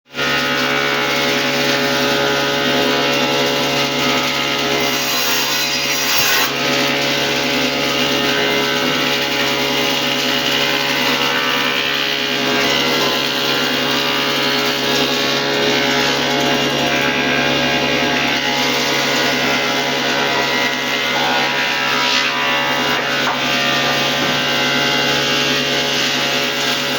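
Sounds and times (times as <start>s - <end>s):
power tool cutting wood: 0.1s - 26.9s.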